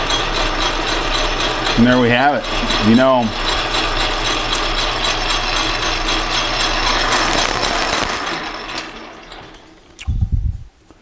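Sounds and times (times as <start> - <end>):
metal lathe gear whine: 0.0 - 10.0.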